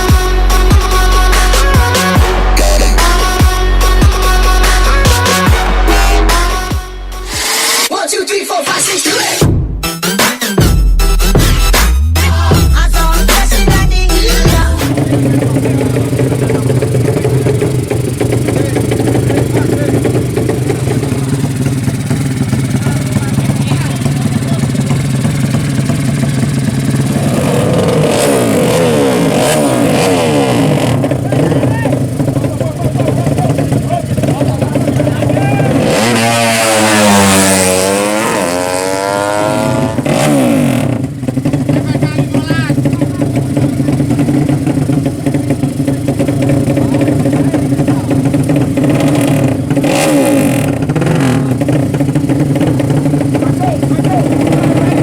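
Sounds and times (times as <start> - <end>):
motorcycle engines revving: 0.0 - 7.9, 12.6 - 55.0.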